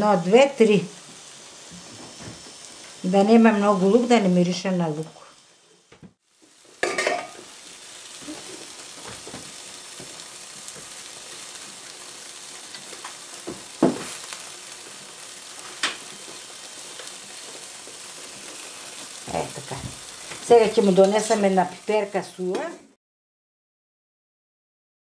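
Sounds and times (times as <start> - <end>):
food sizzling on stove: 0.0 - 23.0.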